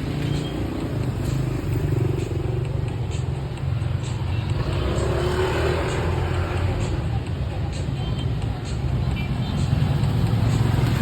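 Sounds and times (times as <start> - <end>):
traffic engines rumbling: 0.0 - 11.0.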